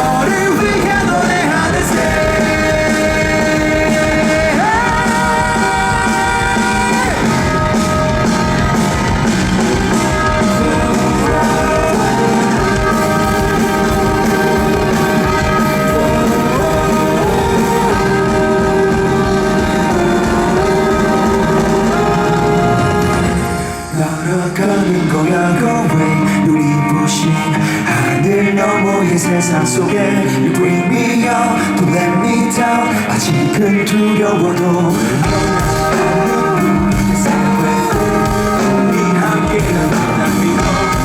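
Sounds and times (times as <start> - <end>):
rock band playing: 0.0 - 41.0
sliding lead guitar notes: 0.0 - 41.0.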